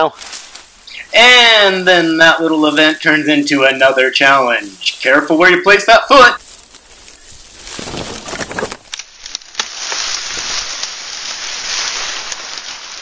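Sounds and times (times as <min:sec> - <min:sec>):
leaves and twigs rustling and crackling: 0:00.0 - 0:13.0.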